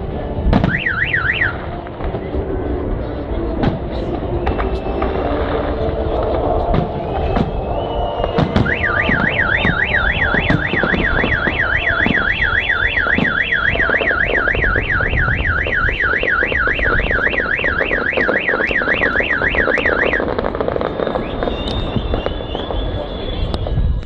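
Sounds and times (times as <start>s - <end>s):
car alarm siren warbling: 0.6s - 1.7s, 4.0s - 22.7s.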